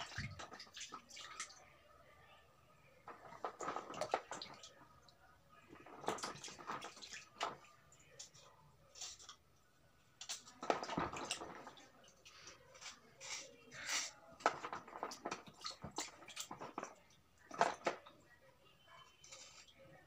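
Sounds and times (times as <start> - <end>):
water splashes and drips: 0.0 - 2.1, 2.9 - 13.5, 14.1 - 18.4.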